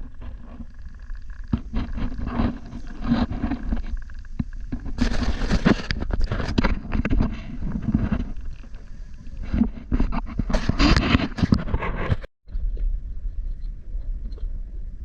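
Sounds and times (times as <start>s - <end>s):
knocks and scrapes on hull: 0.0s - 12.9s
wind rumble on microphone: 0.0s - 15.0s.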